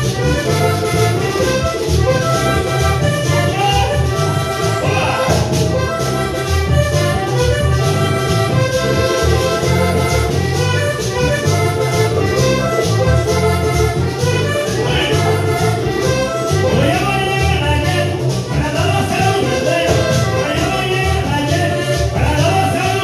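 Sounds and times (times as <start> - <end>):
latin dance music: 0.0 - 23.0.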